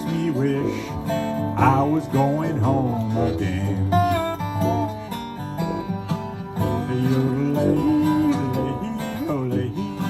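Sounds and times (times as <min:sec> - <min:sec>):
acoustic guitar sliding notes: 0:00.0 - 0:10.0.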